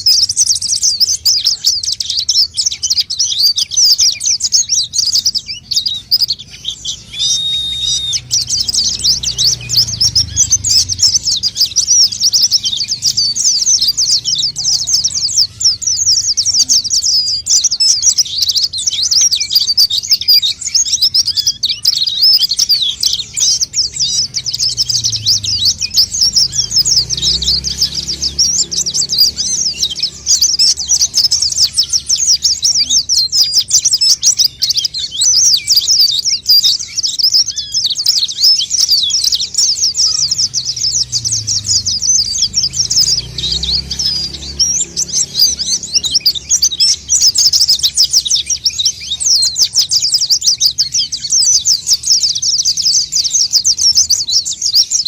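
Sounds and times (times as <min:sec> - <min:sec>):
bird twittering rapidly: 0:00.0 - 0:55.0.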